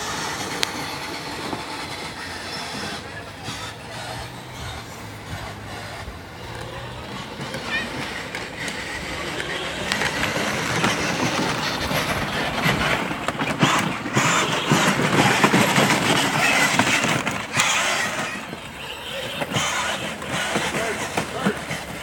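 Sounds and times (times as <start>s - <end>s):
toy vehicle motors on leaves: 0.0s - 22.0s.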